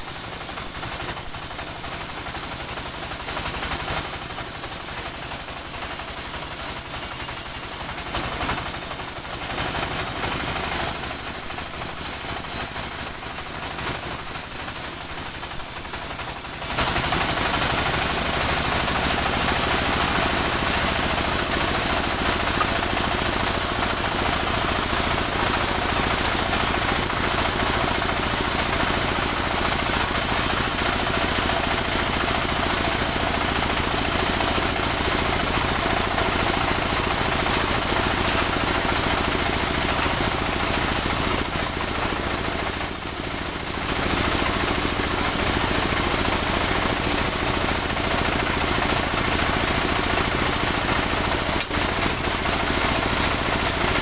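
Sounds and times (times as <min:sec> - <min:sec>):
sawmill engine chugging: 0:00.0 - 0:54.0
saw blade cutting log: 0:00.1 - 0:54.0.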